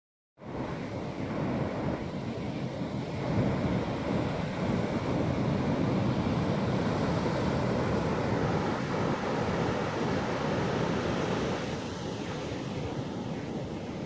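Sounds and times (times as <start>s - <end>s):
ocean surf breaking: 0.4s - 14.0s
wind buffeting microphone: 0.4s - 14.0s.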